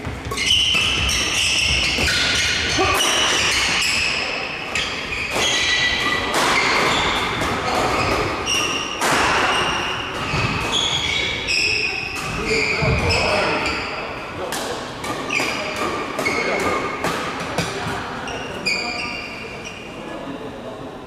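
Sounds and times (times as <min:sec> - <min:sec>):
shoes squeaking on floor: 0:00.0 - 0:14.0, 0:15.2 - 0:16.9, 0:18.2 - 0:20.0.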